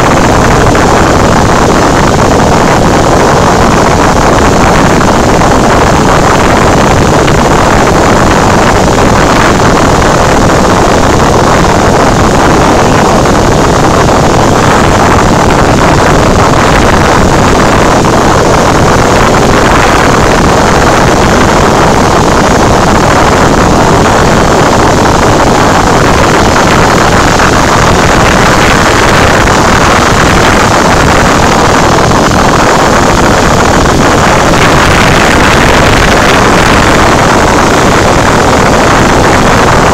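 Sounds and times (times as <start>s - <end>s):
airplane engine drone in cabin: 0.0s - 39.9s
rushing airflow: 0.0s - 39.9s.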